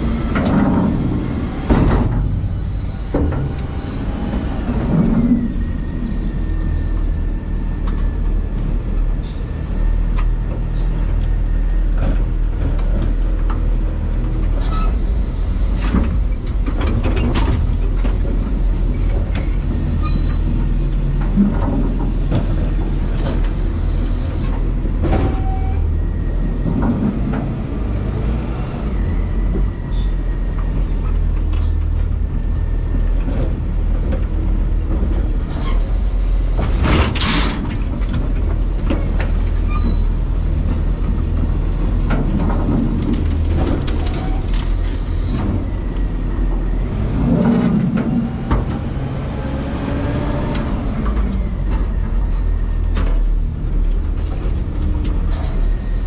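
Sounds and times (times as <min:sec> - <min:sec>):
garbage truck engine and hydraulics: 0:00.0 - 0:56.0.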